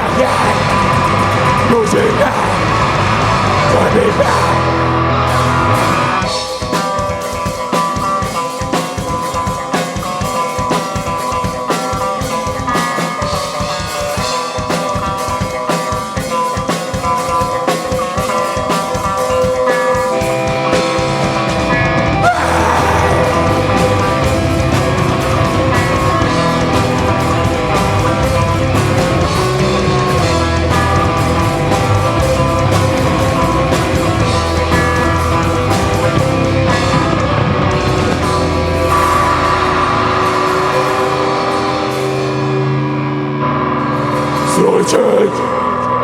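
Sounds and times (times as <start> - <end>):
drum kit: 0.0 - 46.0
electric guitars: 0.0 - 46.0.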